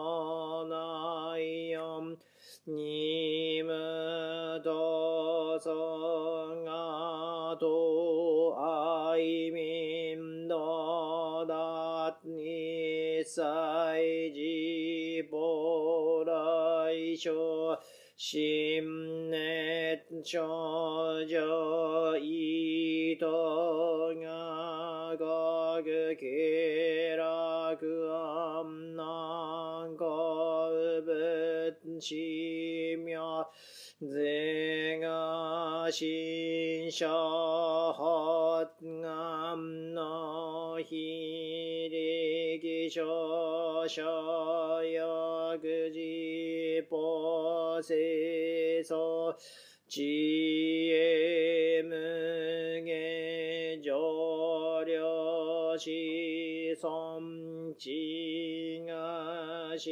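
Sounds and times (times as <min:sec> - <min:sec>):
priest chanting: 0:00.0 - 0:59.9.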